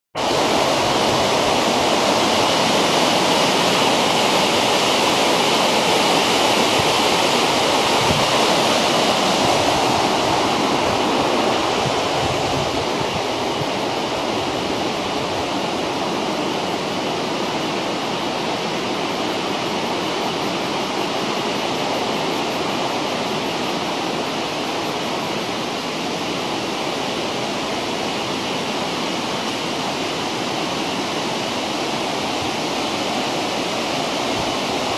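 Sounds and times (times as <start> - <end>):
mountain stream rushing: 0.2 - 34.9.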